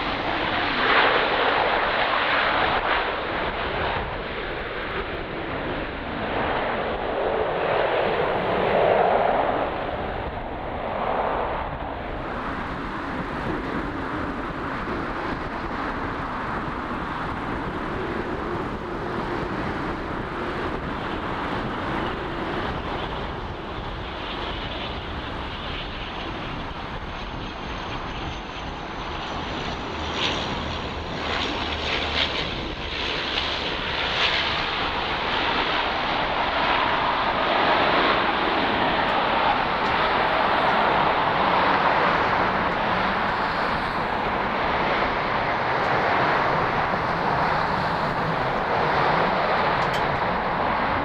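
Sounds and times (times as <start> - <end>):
turboprop engines droning: 0.0 - 51.0.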